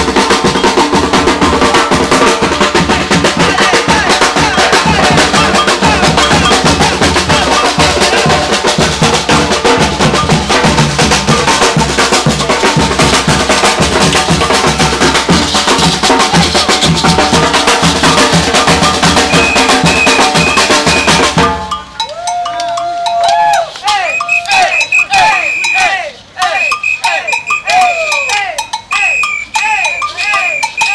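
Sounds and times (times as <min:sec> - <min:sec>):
fast percussion ensemble drumming: 0:00.0 - 0:30.9.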